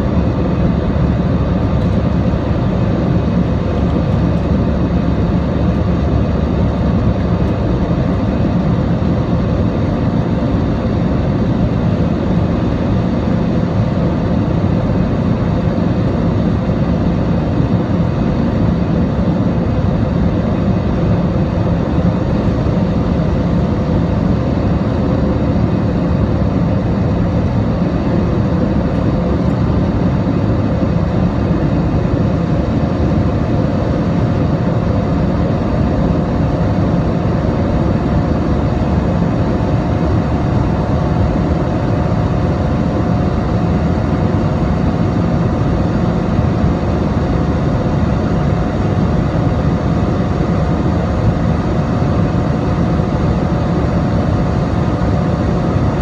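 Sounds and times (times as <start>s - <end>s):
airplane cabin noise: 0.0s - 56.0s.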